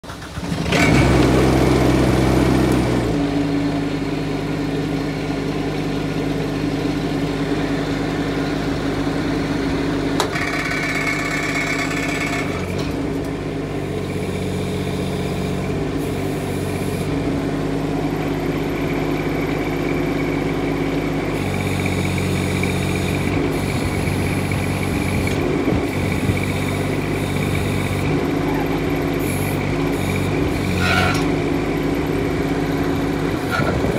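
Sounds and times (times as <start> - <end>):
diesel excavator engine running: 0.0 - 33.9.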